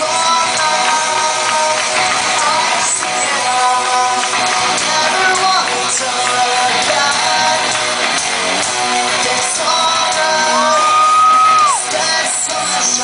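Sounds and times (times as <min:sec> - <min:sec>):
person shouting singing: 0:00.0 - 0:08.0, 0:09.1 - 0:13.0
drums: 0:00.0 - 0:13.0
electric guitars: 0:00.0 - 0:13.0.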